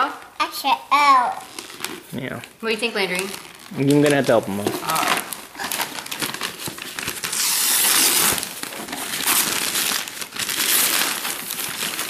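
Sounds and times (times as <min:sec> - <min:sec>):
tissue paper crinkling: 0:01.4 - 0:12.0.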